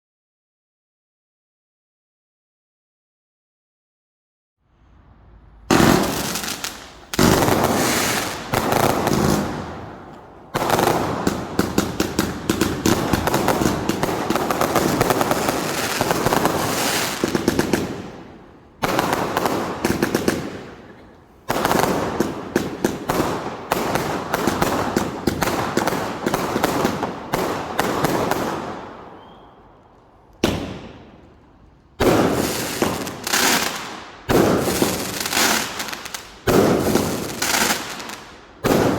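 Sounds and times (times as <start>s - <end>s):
fireworks firing volleys: 5.6s - 38.9s.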